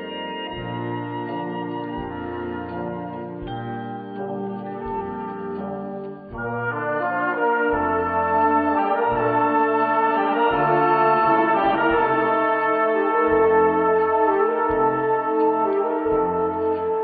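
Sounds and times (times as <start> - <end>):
brass wind band music: 0.0 - 17.0.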